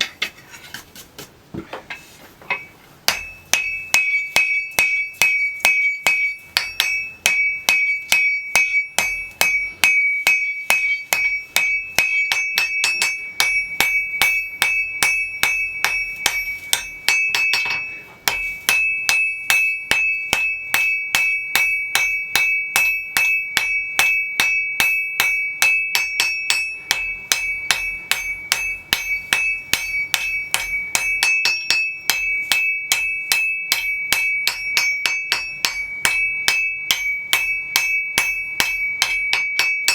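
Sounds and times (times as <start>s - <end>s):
hammer striking ringing anvil: 2.5s - 39.9s.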